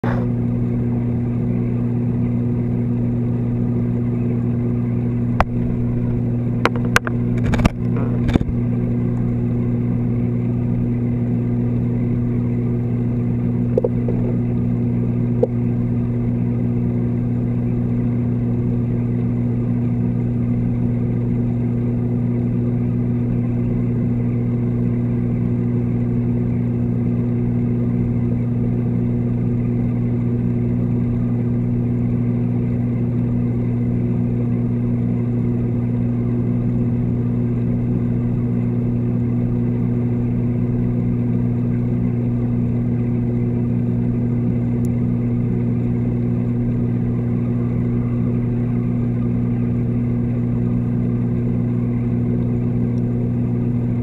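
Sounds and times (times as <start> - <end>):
low electrical pump hum: 0.0 - 54.0.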